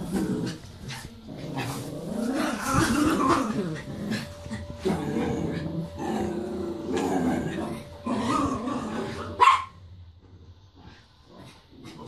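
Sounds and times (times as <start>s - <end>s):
small dogs growling and whining: 0.0s - 12.0s.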